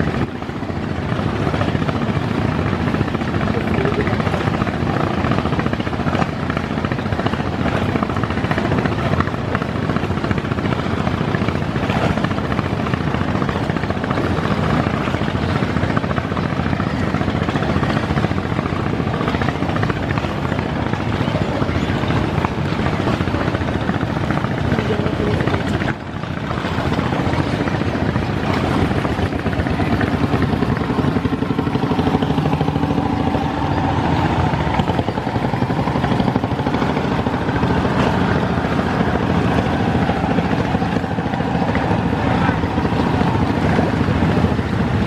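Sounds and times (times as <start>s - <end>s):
boat engine rumble: 0.0s - 45.0s
rushing water: 0.0s - 45.0s
wind: 0.0s - 45.0s.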